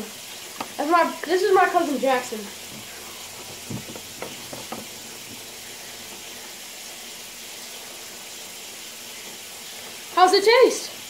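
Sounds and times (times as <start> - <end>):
room tone hiss: 0.0 - 11.0.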